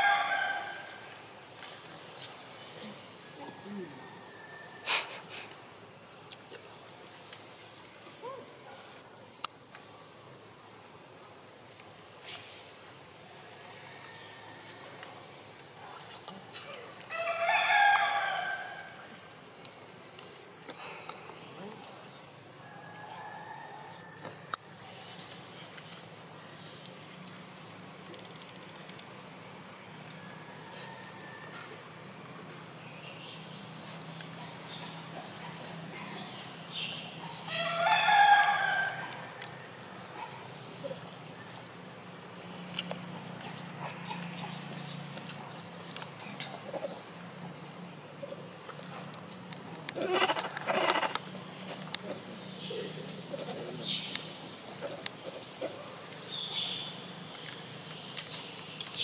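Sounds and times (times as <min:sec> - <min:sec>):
insect hiss: 0:00.0 - 0:59.0.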